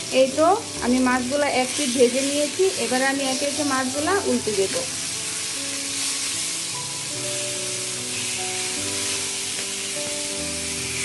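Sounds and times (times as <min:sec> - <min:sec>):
fish sizzling in oil: 0:00.0 - 0:11.0
soft background music: 0:00.0 - 0:11.0
spatula turning fish in pan: 0:00.2 - 0:11.0.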